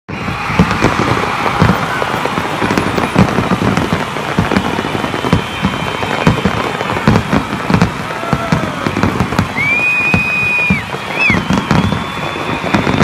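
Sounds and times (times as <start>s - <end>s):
fireworks bangs: 0.1s - 13.0s
fireworks crackling: 0.1s - 13.0s.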